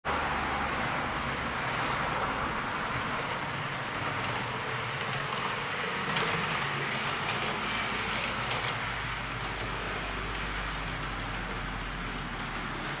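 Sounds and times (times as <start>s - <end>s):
model train rolling: 0.2s - 13.0s.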